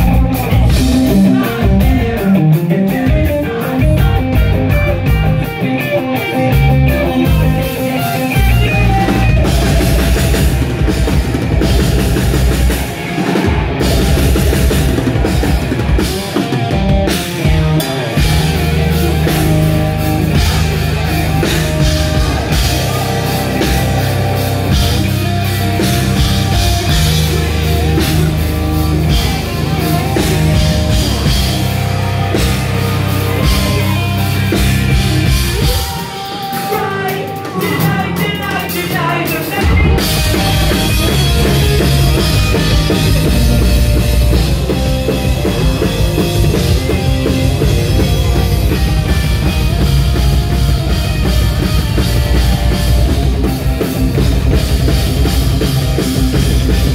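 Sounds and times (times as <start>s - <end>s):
bass guitar: 0.0s - 56.9s
drum kit: 0.0s - 56.9s
electric guitars: 0.0s - 56.9s.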